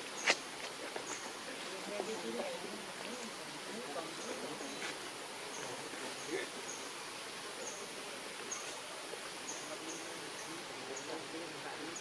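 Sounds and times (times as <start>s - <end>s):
steady forest hiss: 0.0s - 12.0s.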